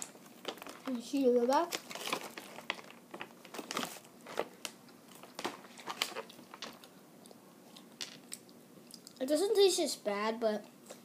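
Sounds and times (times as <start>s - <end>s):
snack wrapper crinkling: 0.0s - 9.2s.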